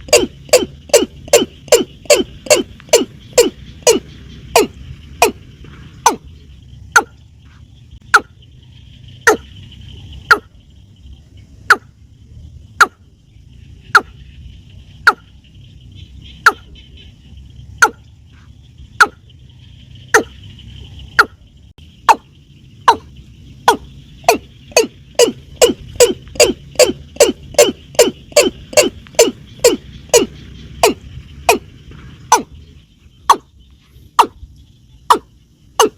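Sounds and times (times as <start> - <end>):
insects humming: 0.0 - 35.9.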